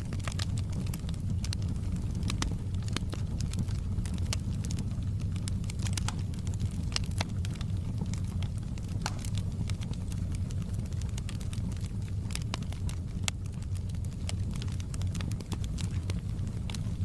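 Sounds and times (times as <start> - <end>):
fire flames rumbling: 0.0 - 17.0
wood crackling and popping: 0.0 - 17.0.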